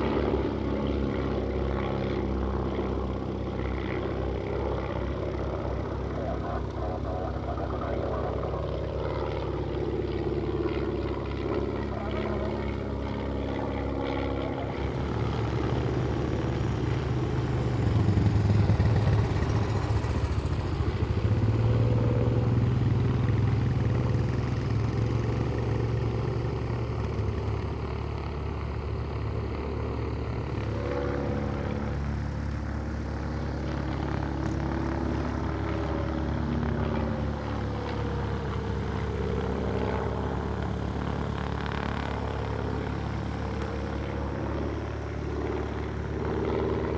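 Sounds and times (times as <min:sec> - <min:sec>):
light aircraft propeller engine: 0:00.0 - 0:46.9.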